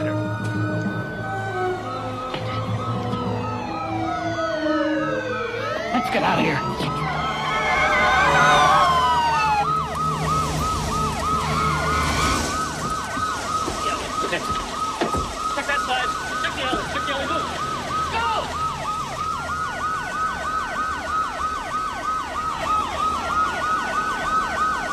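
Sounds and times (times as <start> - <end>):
police siren wailing: 0.0 - 24.9
police siren yelping: 0.0 - 24.9.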